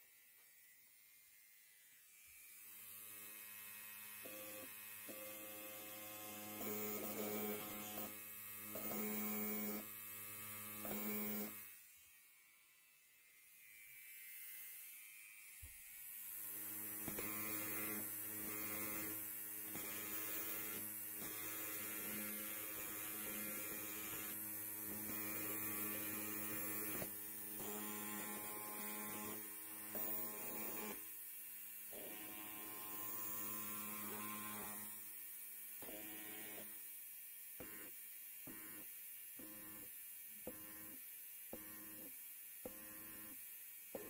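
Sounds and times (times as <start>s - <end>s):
electric hair clippers buzzing: 0.0s - 44.0s.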